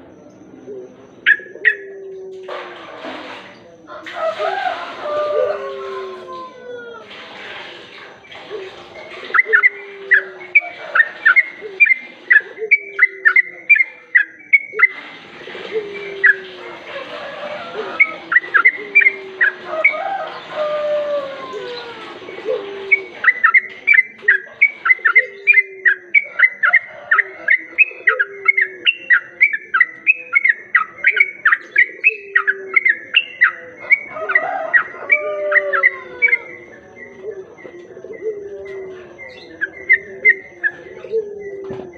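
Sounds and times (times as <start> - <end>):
bird song recording: 0.0 - 41.9.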